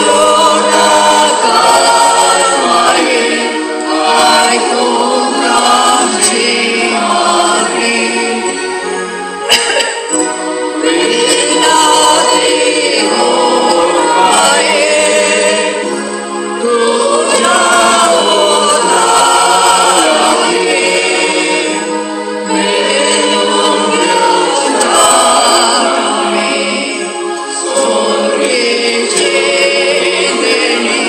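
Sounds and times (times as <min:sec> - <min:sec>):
choir singing long notes: 0:00.0 - 0:31.0.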